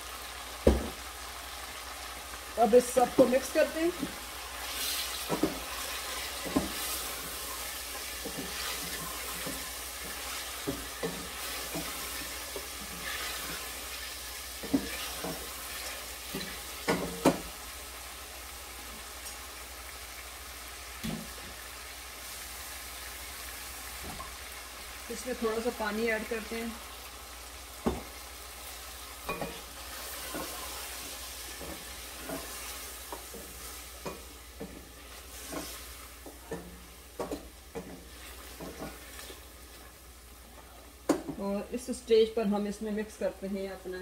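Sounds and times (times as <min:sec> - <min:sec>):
chicken sizzling in a pot: 0:00.0 - 0:44.0.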